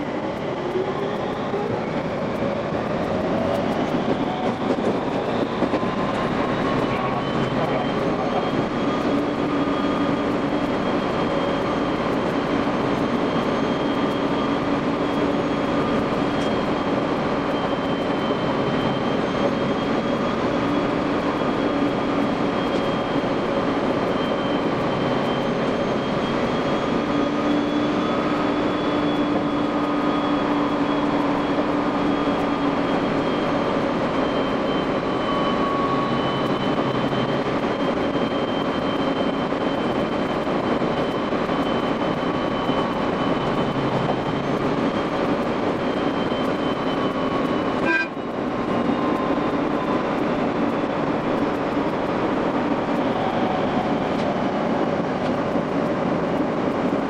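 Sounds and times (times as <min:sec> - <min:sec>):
steady whining tones: 0:00.0 - 0:57.0
train running noise: 0:00.0 - 0:57.0.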